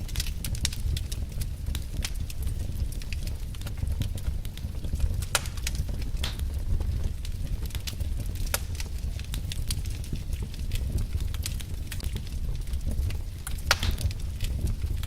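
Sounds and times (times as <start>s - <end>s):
burning logs crackling and popping: 0.0s - 15.0s
low rumble of flames: 0.0s - 15.0s.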